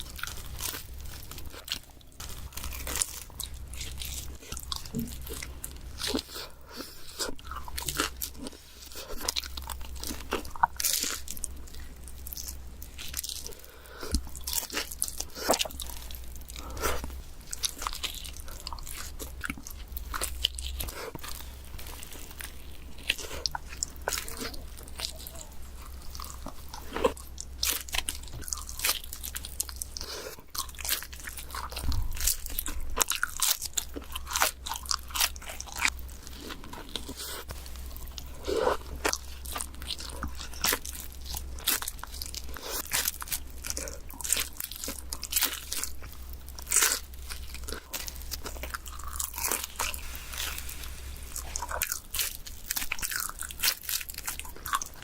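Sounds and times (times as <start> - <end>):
chewing: 0.0 - 55.0
crunching pizza crust: 0.0 - 55.0
low steady hum: 0.0 - 55.0.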